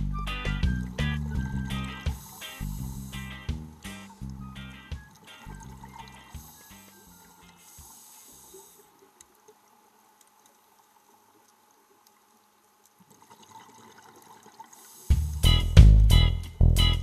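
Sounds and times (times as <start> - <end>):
faint underwater hiss: 0.0 - 15.5.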